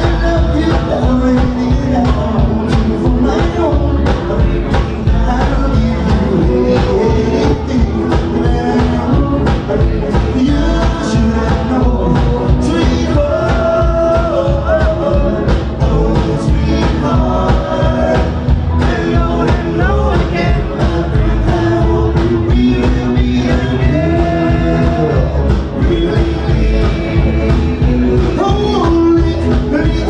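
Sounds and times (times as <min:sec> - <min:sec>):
rockabilly band playing live: 0:00.0 - 0:30.0.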